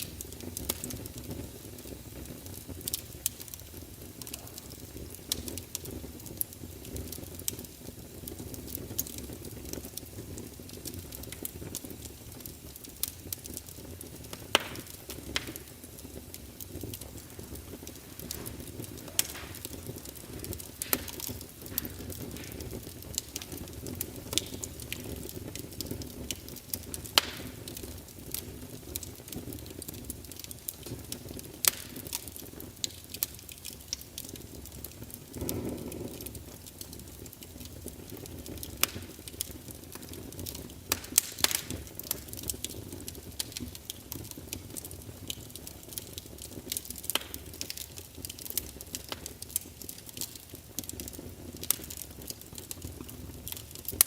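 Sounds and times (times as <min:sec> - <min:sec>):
fire rushing: 0:00.0 - 0:33.5, 0:34.9 - 0:44.7
fire pops and snaps: 0:00.0 - 0:54.0.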